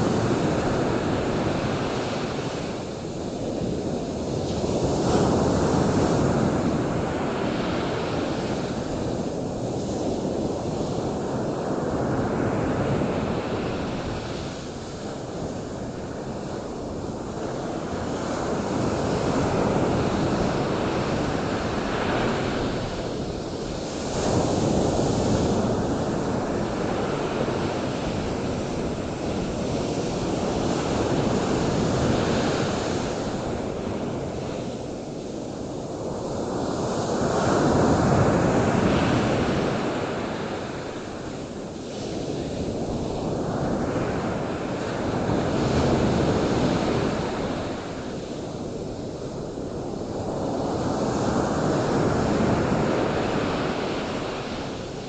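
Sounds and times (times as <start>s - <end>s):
ocean waves washing onto beach: 0.0s - 55.0s
wind: 0.0s - 55.0s.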